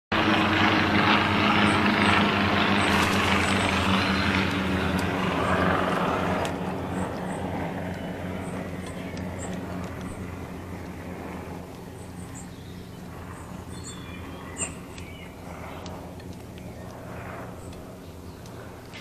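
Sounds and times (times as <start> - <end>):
passing motor engine drone: 0.1 - 19.0.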